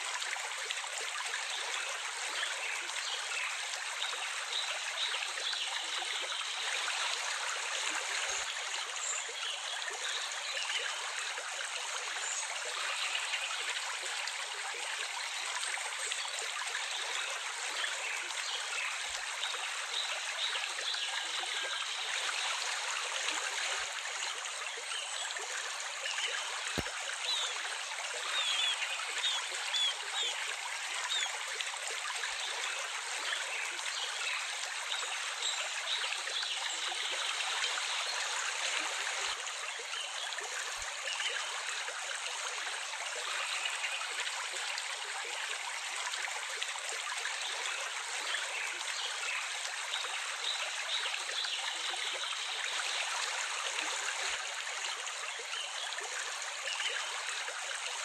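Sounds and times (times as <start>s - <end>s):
stream trickling and gurgling: 0.0s - 58.0s.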